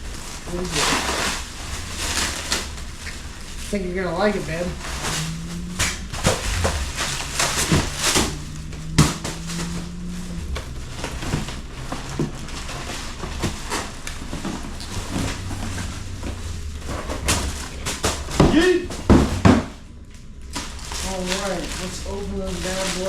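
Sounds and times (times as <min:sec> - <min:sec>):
cardboard packaging rustling: 0:00.0 - 0:23.0.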